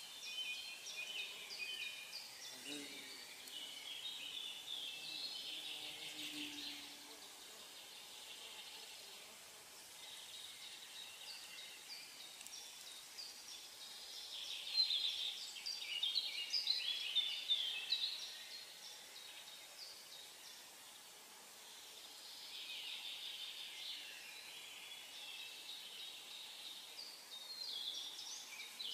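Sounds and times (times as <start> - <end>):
faint outdoor background hiss: 0.0 - 28.9
songbirds singing and chirping: 0.0 - 28.9.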